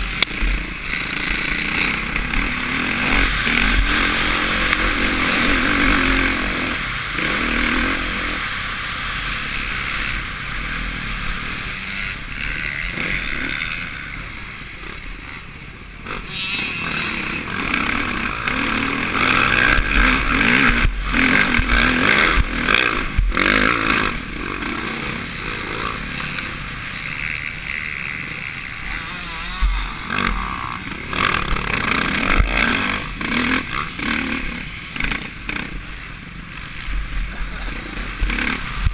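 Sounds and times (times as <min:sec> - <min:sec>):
motocross engine revving: 0:00.0 - 0:38.9.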